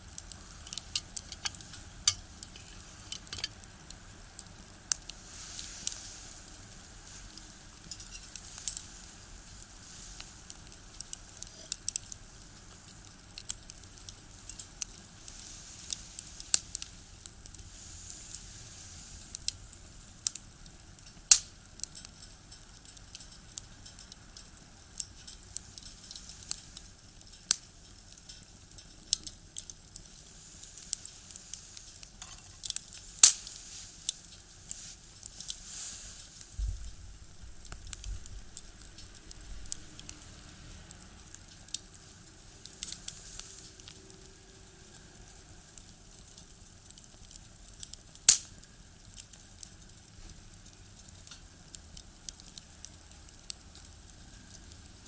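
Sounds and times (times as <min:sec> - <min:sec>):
soft hiss of fire: 0:00.0 - 0:55.0
wood fire crackling: 0:00.0 - 0:55.0.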